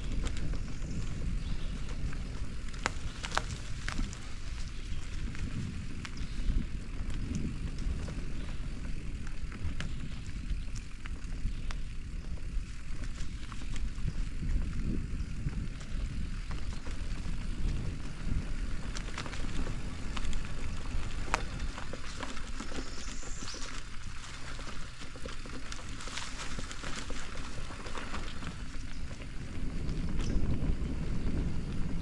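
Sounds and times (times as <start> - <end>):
wind on microphone: 0.0 - 24.8, 25.9 - 32.0
bicycle tyres rumbling: 0.0 - 32.0.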